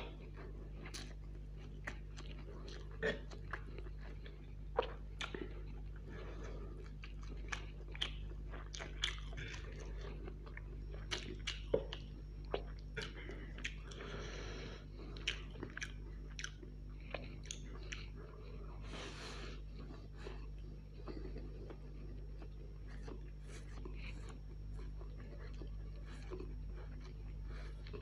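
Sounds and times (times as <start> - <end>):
mouth chewing noodles: 0.0 - 28.0
steady low hum: 0.0 - 28.0.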